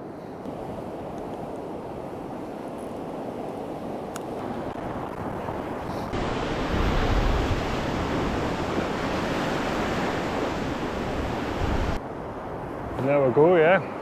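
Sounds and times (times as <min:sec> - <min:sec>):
wind buffeting microphone: 0:00.0 - 0:14.0
sea surf breaking: 0:00.5 - 0:12.0.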